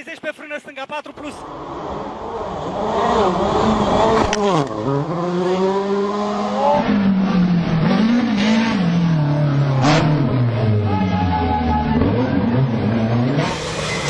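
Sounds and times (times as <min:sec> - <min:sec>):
rally car engines revving high: 0:01.2 - 0:14.0.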